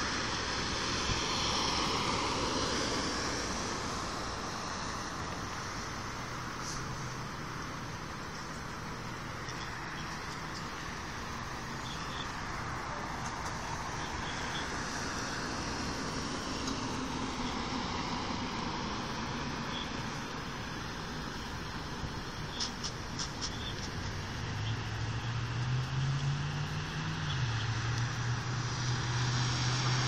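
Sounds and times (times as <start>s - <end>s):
road traffic noise: 0.0s - 30.0s
vehicle passing: 0.0s - 30.0s.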